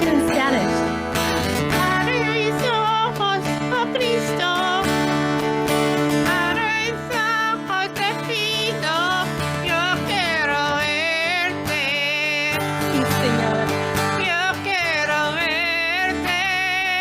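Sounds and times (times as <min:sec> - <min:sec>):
strummed acoustic guitar: 0:00.0 - 0:17.0
person singing worship song: 0:01.7 - 0:05.0, 0:06.2 - 0:17.0.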